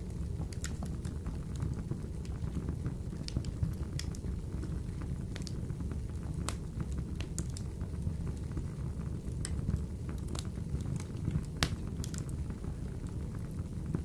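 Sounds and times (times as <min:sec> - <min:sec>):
flames rumbling in a stove: 0:00.0 - 0:14.0
wood fire crackling and popping: 0:00.0 - 0:14.0.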